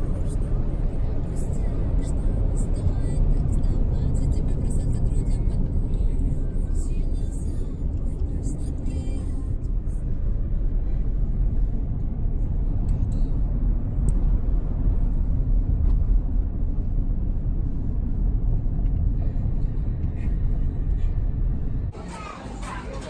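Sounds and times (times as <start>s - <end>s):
car road rumble inside cabin: 0.0s - 23.0s.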